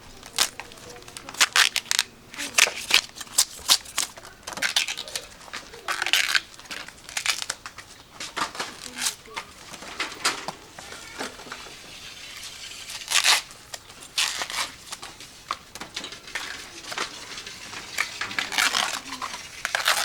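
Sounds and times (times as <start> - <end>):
rustling and crinkling: 0.0 - 20.0.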